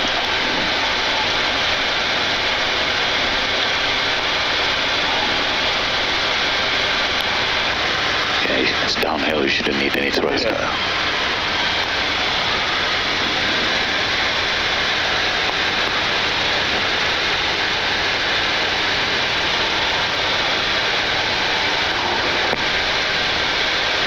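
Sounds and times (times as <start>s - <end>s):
aircraft engines idling: 0.0s - 24.0s.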